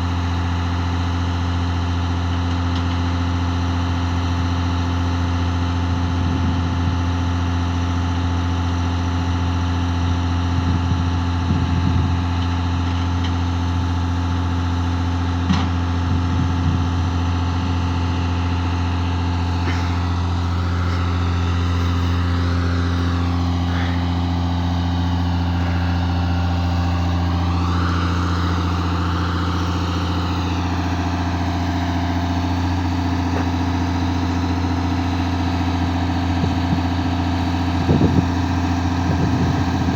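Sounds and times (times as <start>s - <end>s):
crane engine droning: 0.0s - 39.9s.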